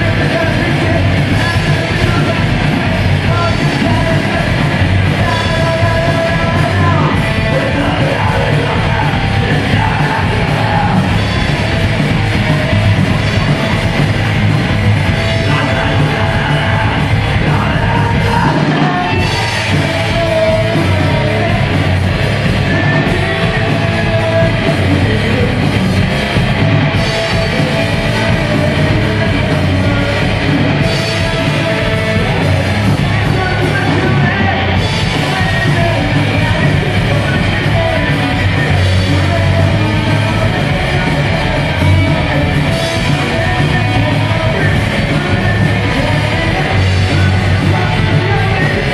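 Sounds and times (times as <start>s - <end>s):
person singing into a microphone: 0.0s - 14.4s, 15.0s - 48.9s
bass guitar: 0.0s - 48.9s
drums: 0.0s - 48.9s
electric guitar: 0.0s - 48.9s.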